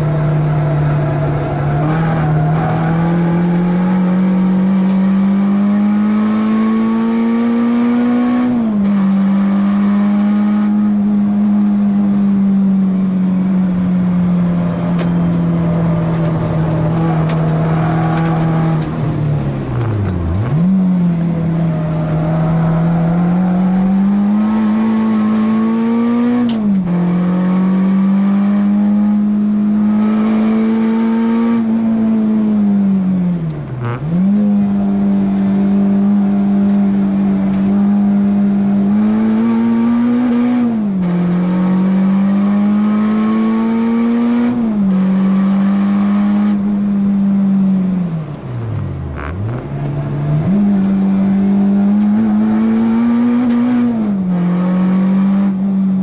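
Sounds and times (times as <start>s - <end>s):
car engine revving hard: 0.0s - 48.2s, 49.1s - 56.0s.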